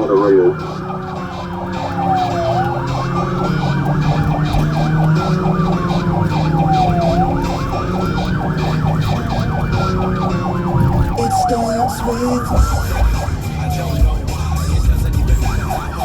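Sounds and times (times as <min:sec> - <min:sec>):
police siren wailing: 0:00.0 - 0:16.0
police siren yelping: 0:00.0 - 0:16.0.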